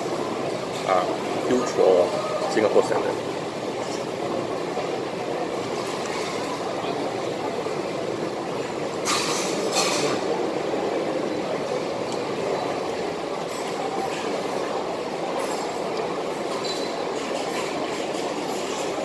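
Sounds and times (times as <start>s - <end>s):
busy food centre background rush: 0.0s - 19.0s.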